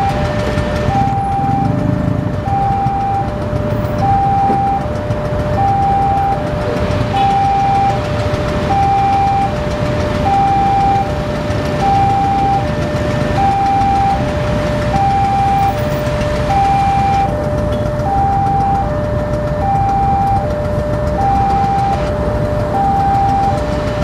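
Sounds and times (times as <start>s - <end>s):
idling traffic engines rumbling: 0.0s - 24.0s
two-tone crossing alarm: 0.0s - 24.0s.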